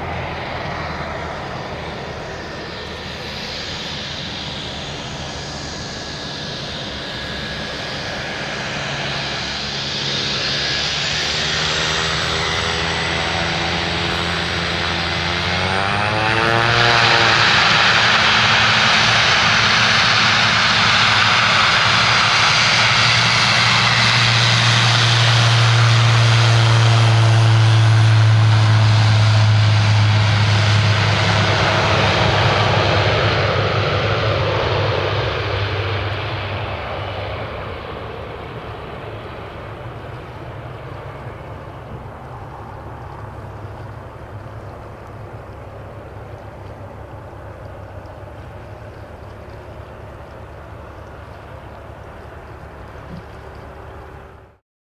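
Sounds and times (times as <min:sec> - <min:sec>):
turboprop propeller drone: 0:00.0 - 0:54.6.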